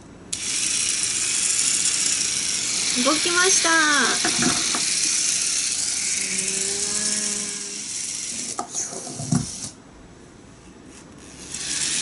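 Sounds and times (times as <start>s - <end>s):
small electric motor whirring: 0.3s - 9.8s, 11.1s - 12.0s.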